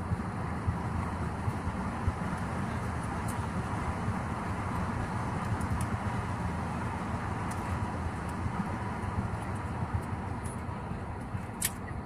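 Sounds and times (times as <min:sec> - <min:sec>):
jet engine hum: 0:00.0 - 0:12.0
wheels rumbling on pavement: 0:00.0 - 0:12.0.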